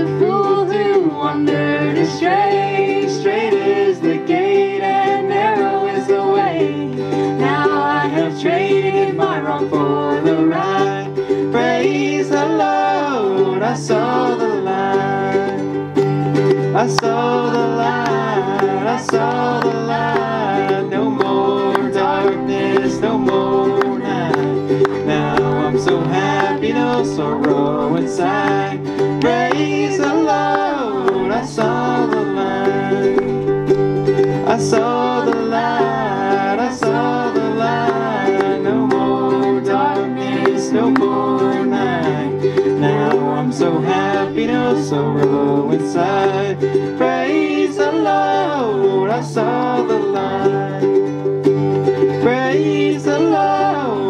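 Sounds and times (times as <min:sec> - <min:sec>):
plucked string instrument: 0:00.0 - 0:54.0
strummed acoustic guitar: 0:00.0 - 0:54.0.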